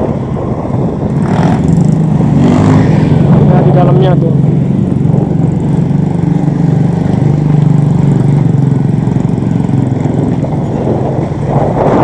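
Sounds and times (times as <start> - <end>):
small motorcycle engine running: 1.1 - 12.0.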